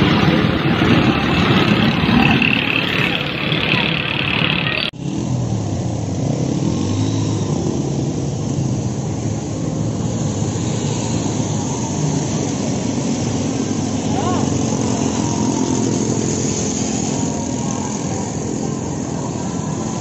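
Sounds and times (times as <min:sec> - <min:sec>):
motorcycle engines in traffic: 0:00.0 - 0:20.0.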